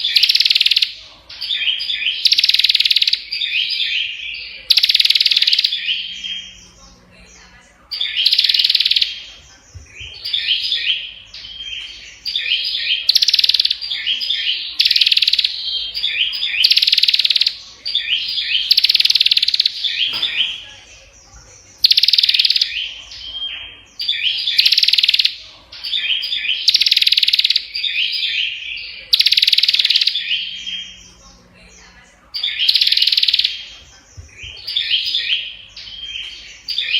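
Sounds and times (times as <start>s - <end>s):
bird singing rapid chattering notes: 0.0s - 36.9s.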